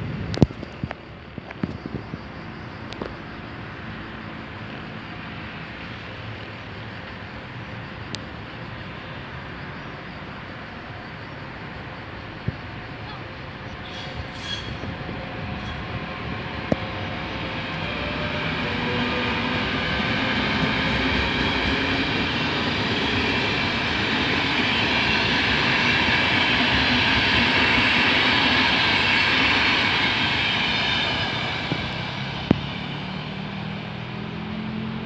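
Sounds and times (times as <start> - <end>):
train wheels rolling on rails: 0.0 - 34.8.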